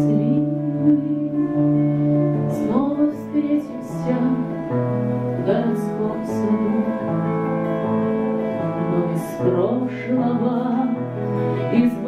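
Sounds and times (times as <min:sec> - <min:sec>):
woman singing: 0:00.0 - 0:07.8, 0:08.5 - 0:12.0
acoustic guitar chords: 0:00.0 - 0:12.0.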